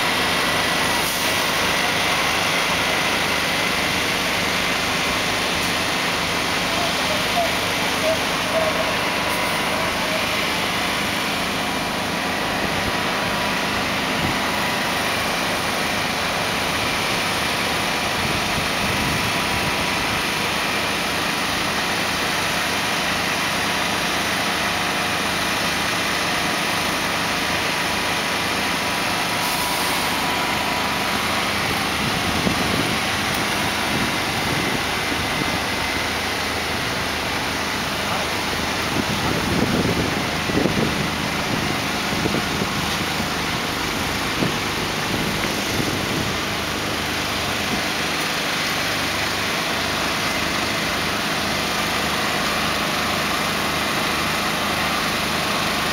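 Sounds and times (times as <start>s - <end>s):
truck diesel engine running: 0.0s - 55.9s.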